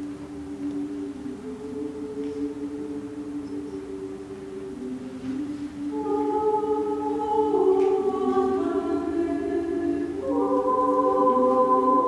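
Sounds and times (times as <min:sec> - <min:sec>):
small choir singing a cappella: 0:00.0 - 0:12.0.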